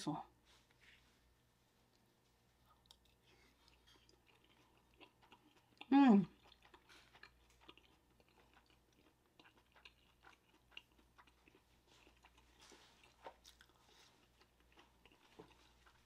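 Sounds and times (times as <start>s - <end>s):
faint chewing: 1.8s - 16.0s.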